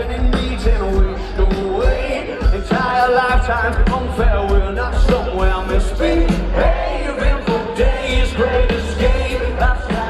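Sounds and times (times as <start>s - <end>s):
live rock band playing: 0.0s - 10.0s
person singing: 0.0s - 10.0s
steady drum beat: 0.0s - 10.0s.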